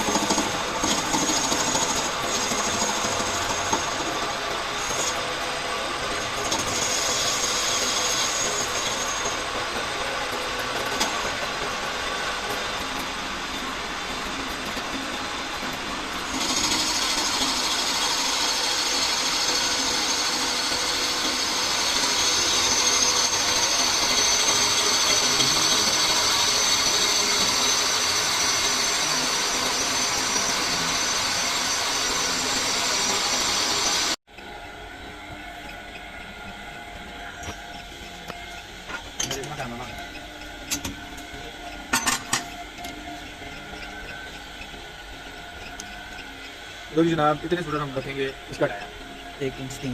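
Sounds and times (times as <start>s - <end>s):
metal lathe running: 0.0s - 49.9s.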